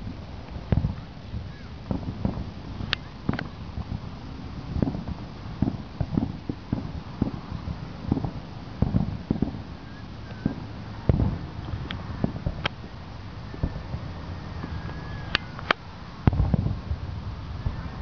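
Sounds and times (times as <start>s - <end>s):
distant firework booms: 0.0s - 18.0s
sharp firework cracks: 0.0s - 18.0s.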